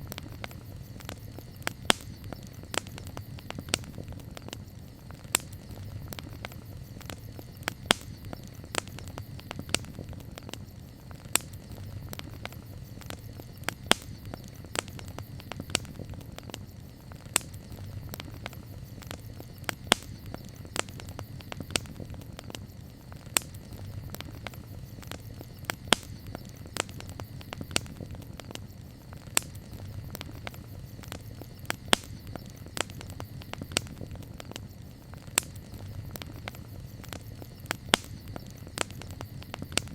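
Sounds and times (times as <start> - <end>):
campfire crackling: 0.0 - 39.9
low rumble of burning fire: 0.0 - 39.9.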